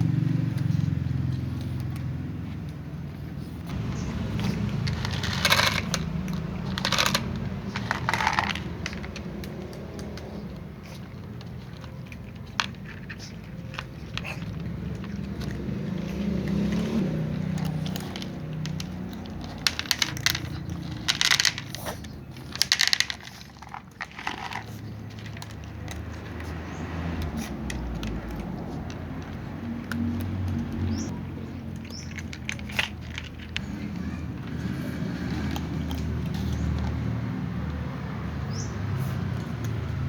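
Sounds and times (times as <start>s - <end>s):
cats crunching food: 0.0s - 40.0s.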